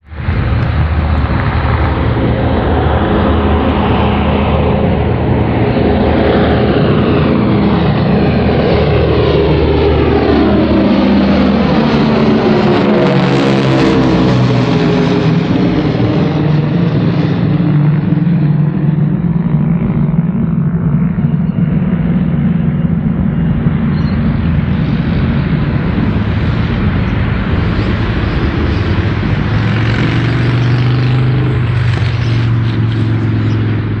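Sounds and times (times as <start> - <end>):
propeller aircraft engines droning: 0.0 - 34.0.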